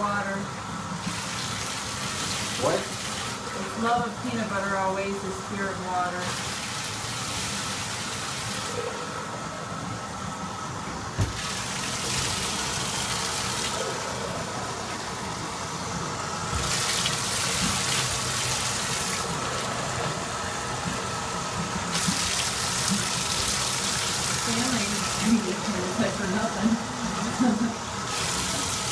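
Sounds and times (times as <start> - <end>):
bath water running: 0.0 - 28.9.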